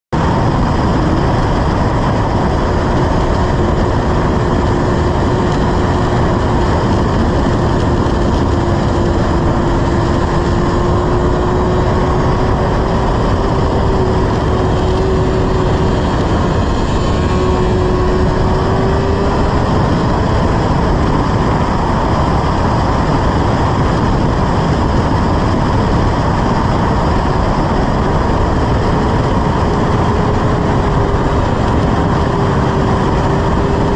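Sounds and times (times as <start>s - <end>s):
wind and road noise: 0.1s - 33.9s
motorcycle engine running: 0.2s - 33.9s.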